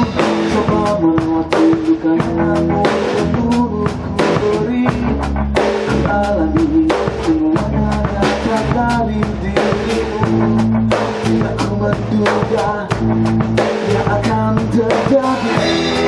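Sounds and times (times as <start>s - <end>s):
drum kit: 0.0s - 16.0s
electric bass: 0.0s - 16.0s
electric guitars: 0.0s - 16.0s.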